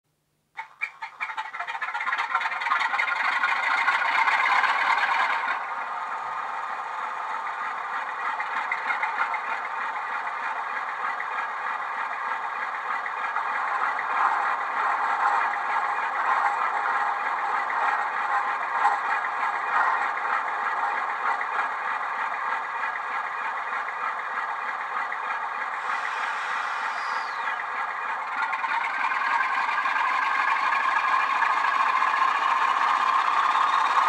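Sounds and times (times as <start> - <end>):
diesel engine starting and idling: 0.6 - 34.0.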